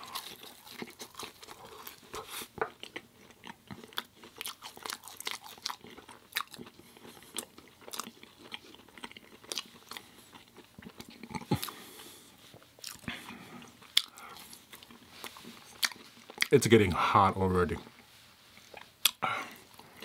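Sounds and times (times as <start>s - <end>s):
person chewing and biting food: 0.0s - 16.5s, 17.9s - 20.0s
food crunching: 0.0s - 16.6s.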